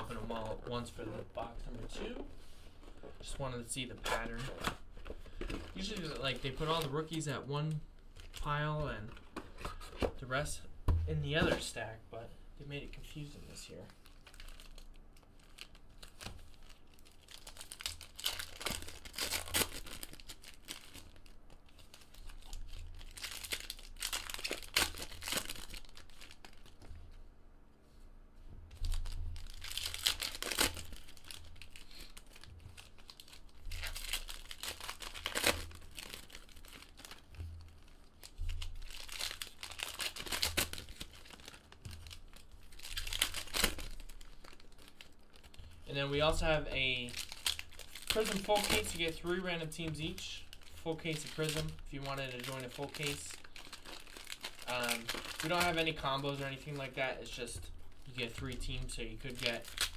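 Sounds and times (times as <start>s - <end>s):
foil packs tearing and crinkling: 2.9s - 7.4s, 13.7s - 26.8s, 28.8s - 59.9s.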